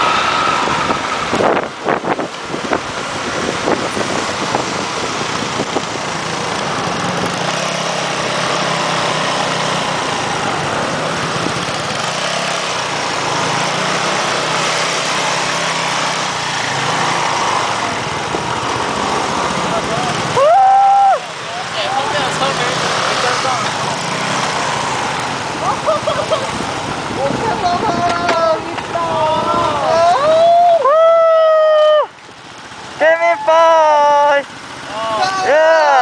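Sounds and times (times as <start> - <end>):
motorcycle engine running: 0.0 - 30.7
road and wind noise: 0.0 - 36.0.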